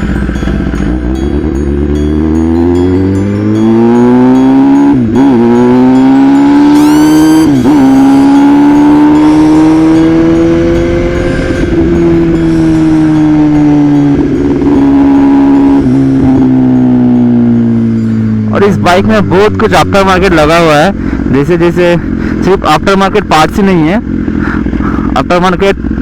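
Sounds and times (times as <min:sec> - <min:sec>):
motorcycle engine accelerating hard: 0:00.0 - 0:26.0.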